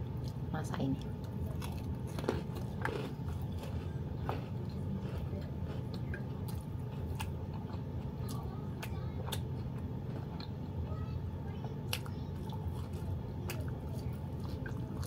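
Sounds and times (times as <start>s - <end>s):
person chewing food: 1.0s - 10.7s, 11.8s - 15.0s.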